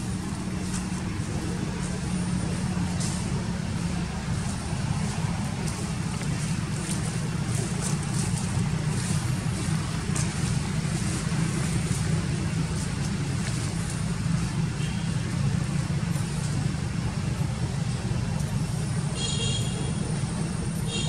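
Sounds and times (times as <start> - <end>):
motor vehicle rumbling: 0.0 - 21.0.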